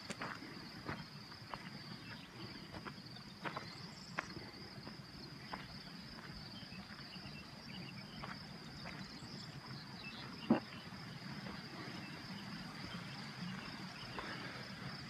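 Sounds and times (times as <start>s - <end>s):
footsteps on stony path: 0.0s - 15.0s
insects chirring: 0.0s - 15.0s.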